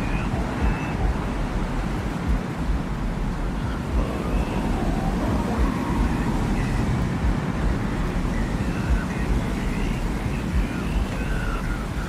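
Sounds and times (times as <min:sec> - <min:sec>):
deep wind rumble: 0:00.0 - 0:12.0
faint wavering high tones: 0:00.0 - 0:12.0.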